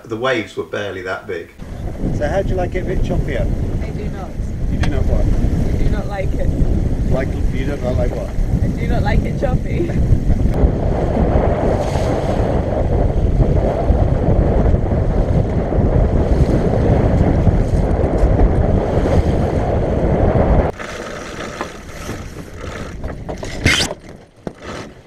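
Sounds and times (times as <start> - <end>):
wind buffeting microphone: 1.6 - 24.7
rushing wind and water: 1.6 - 25.0.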